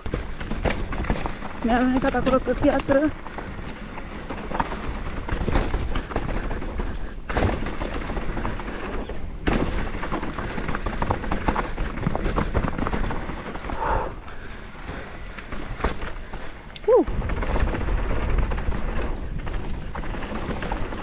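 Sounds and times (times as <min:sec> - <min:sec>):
bike chain and frame rattling: 0:00.0 - 0:21.0
bike tyres rolling over stones: 0:00.0 - 0:21.0
wind rumbling on microphone: 0:00.0 - 0:21.0.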